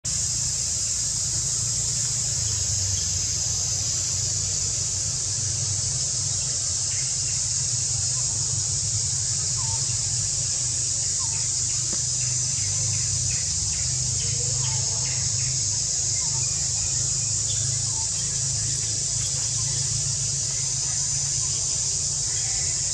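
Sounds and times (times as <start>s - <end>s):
constant low rumble: 0.0s - 22.9s
insect chorus drone: 0.0s - 22.9s.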